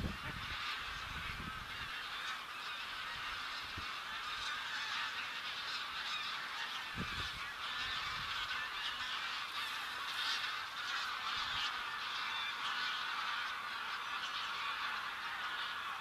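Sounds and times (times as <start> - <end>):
flock of waterfowl calling: 0.0 - 16.0.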